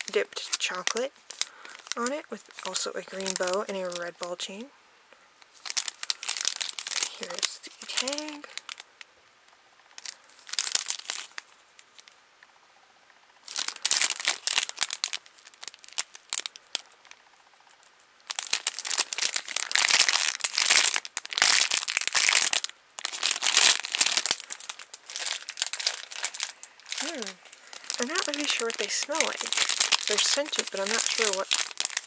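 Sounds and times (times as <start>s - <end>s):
plastic packaging crinkling: 0.0s - 4.7s, 5.4s - 8.9s, 10.0s - 12.1s, 13.4s - 17.2s, 18.2s - 32.0s.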